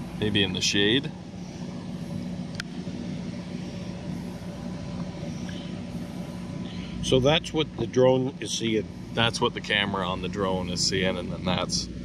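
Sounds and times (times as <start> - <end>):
drone rotors humming: 0.0 - 12.0.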